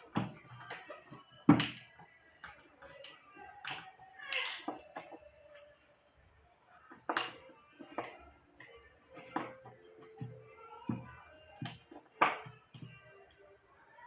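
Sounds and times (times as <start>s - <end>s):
faint music: 0.0s - 14.0s.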